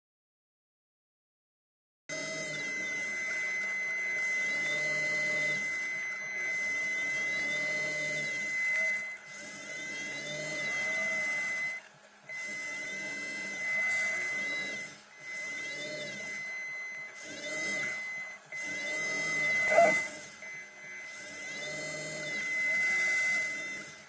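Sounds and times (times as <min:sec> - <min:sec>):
electric thruster motors whirring: 0:02.1 - 0:24.0
high-pitched whine: 0:02.1 - 0:24.0.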